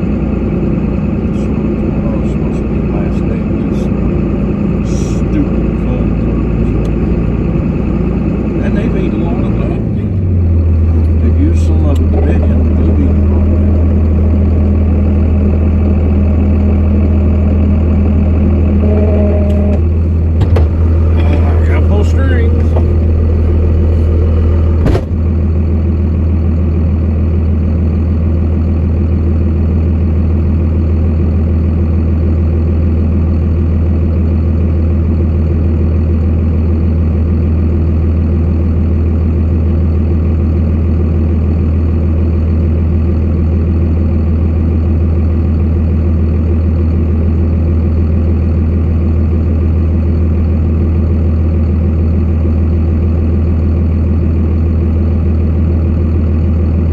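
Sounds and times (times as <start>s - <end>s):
truck engine droning: 0.0s - 56.9s.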